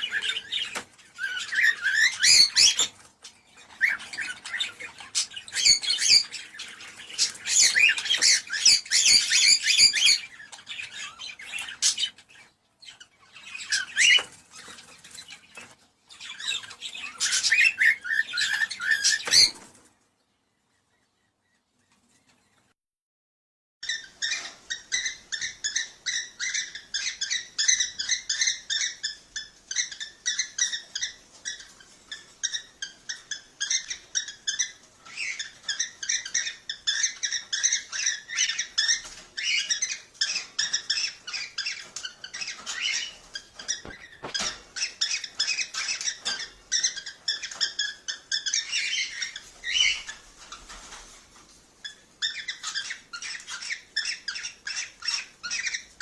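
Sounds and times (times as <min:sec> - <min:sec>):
cockatiels chirping and chattering: 0:00.0 - 0:22.7, 0:23.8 - 0:56.0.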